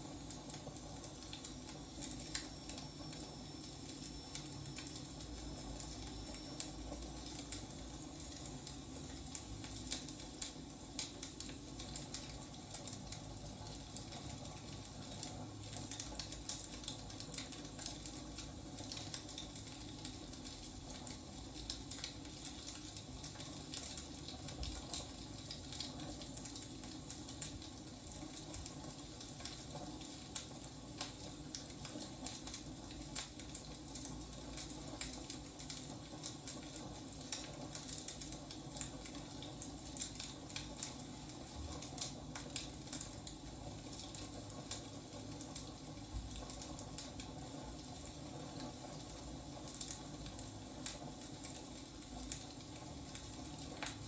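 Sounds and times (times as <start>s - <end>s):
low rushing hiss of fire: 0.0s - 54.0s
firewood crackling: 0.2s - 54.0s.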